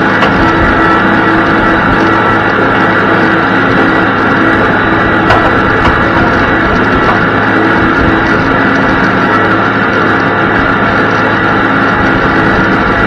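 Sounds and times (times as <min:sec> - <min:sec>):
tractor engine drone: 0:00.0 - 0:13.0.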